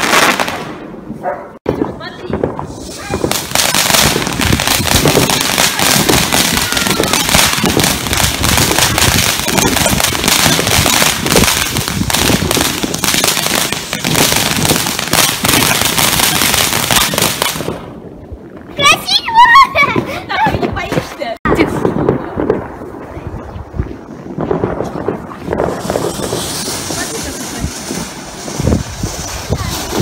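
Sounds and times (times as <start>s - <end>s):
firework crackling and popping: 0.0s - 30.0s.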